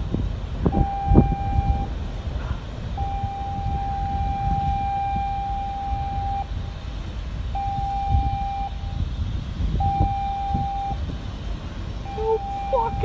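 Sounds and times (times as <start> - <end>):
constant low rumble: 0.0 - 13.0.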